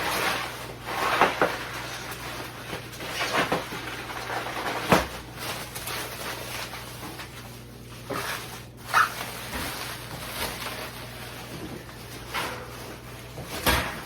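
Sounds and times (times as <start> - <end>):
bubble wrap crinkling and rustling: 0.0 - 14.0.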